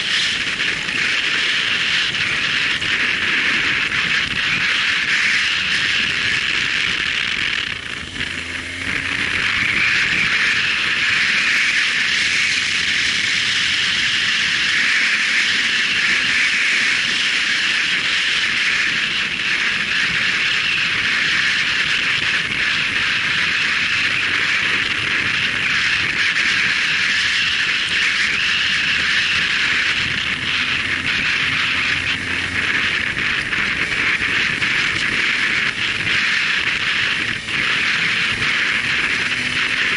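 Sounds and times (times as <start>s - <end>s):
motorcycle engine: 0.0s - 39.9s
road noise: 0.0s - 39.9s
wind rushing: 0.0s - 39.9s.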